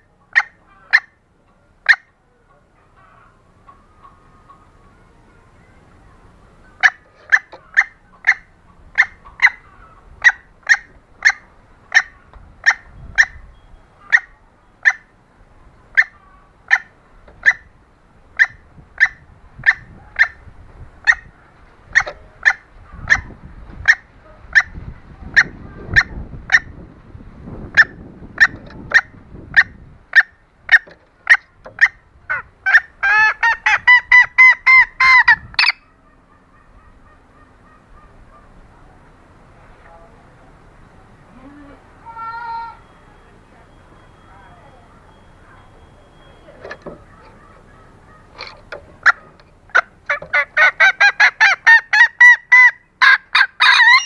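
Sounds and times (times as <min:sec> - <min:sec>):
junglefowl hen clucking: 0:00.0 - 0:39.2, 0:41.1 - 0:54.0.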